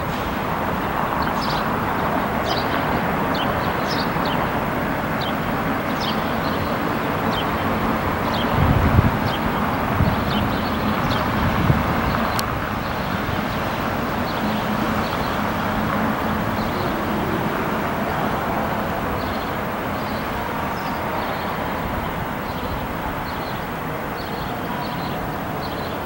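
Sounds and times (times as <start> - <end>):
jet engines at taxi power: 0.0 - 26.0.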